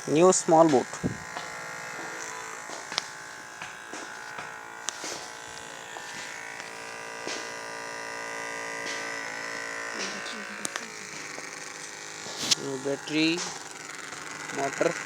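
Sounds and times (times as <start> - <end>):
small motor buzzing: 0.0 - 15.0.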